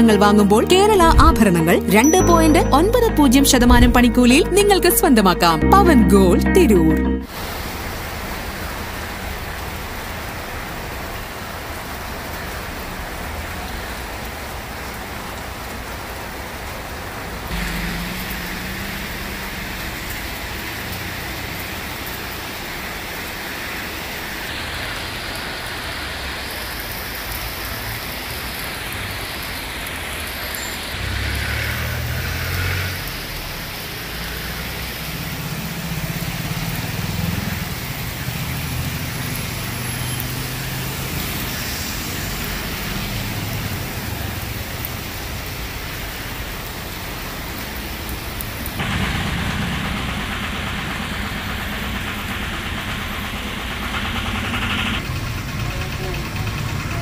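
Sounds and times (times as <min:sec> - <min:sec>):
cars driving past on wet road: 0:07.3 - 0:57.0
heavy rain on a road: 0:07.3 - 0:57.0.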